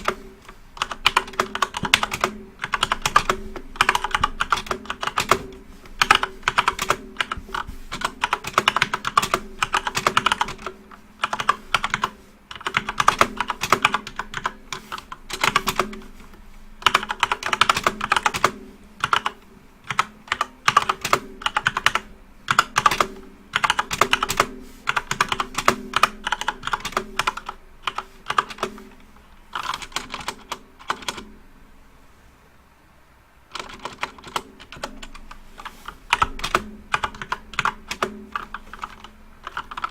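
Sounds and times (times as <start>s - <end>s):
keyboard typing clicks: 0.0s - 16.0s, 16.8s - 28.8s, 29.5s - 31.3s, 33.5s - 39.9s.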